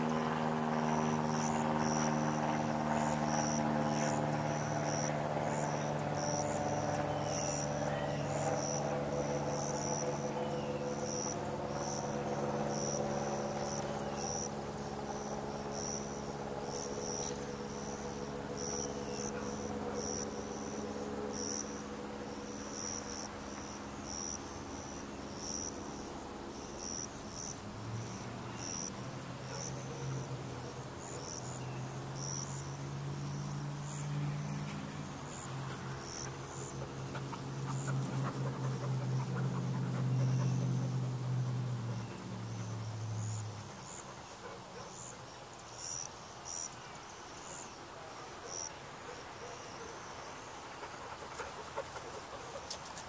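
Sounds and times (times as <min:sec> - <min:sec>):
steady low hum: 0:00.0 - 0:46.7
insect chirping: 0:00.0 - 0:53.0.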